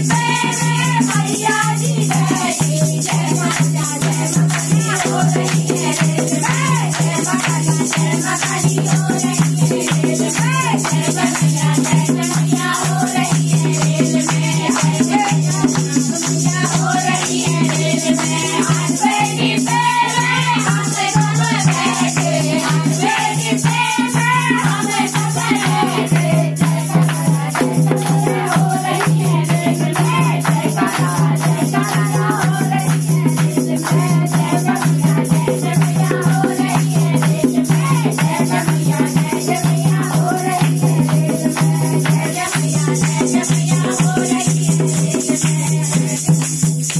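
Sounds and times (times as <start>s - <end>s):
hand claps: 0.0s - 46.9s
rattling percussion: 0.0s - 46.9s
women singing devotional song: 0.0s - 46.9s.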